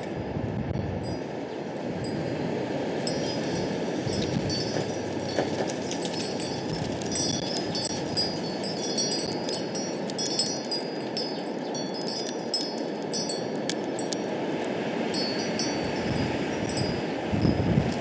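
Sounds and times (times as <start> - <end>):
strong wind rushing: 0.0 - 18.0
metal wind chimes tinkling: 1.0 - 18.0.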